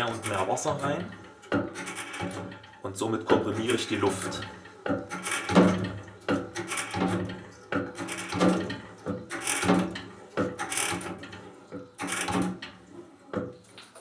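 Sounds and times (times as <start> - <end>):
hand pump clunking: 0.0 - 14.0.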